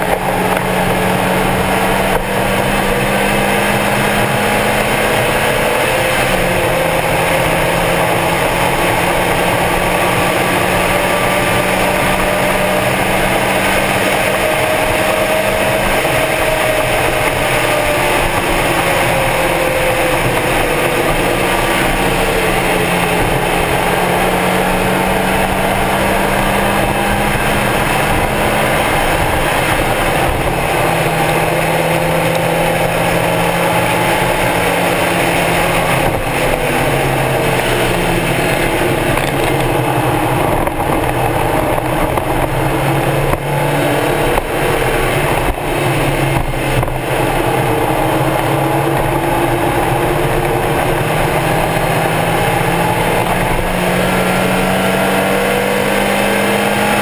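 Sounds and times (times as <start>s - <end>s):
car engine running hard: 0.0s - 57.0s
wind and road noise: 0.0s - 57.0s.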